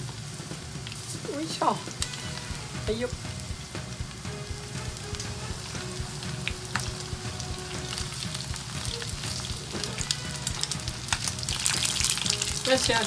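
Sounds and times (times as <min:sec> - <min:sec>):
chicken frying in oil: 0:00.0 - 0:13.0
chopsticks turning food: 0:01.0 - 0:13.0.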